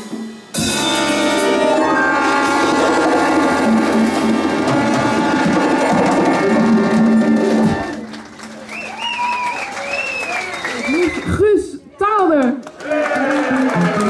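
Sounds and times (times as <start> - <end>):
live band with drums: 0.0 - 11.6.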